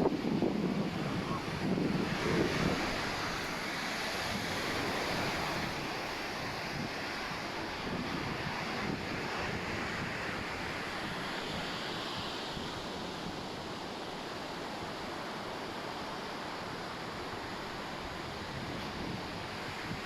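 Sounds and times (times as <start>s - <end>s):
ocean surf on sandy beach: 0.0s - 20.0s.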